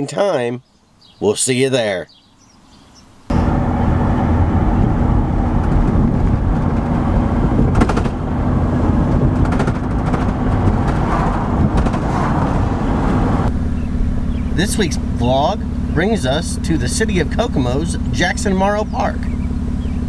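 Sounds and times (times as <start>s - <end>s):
car road and engine noise: 2.3s - 20.0s.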